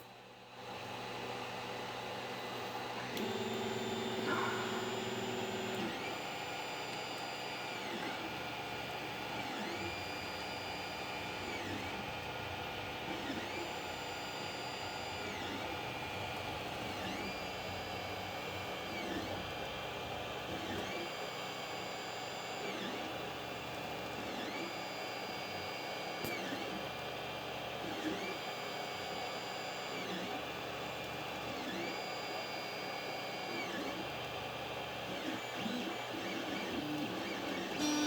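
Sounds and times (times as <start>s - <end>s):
machine running with whine: 0.7s - 38.0s.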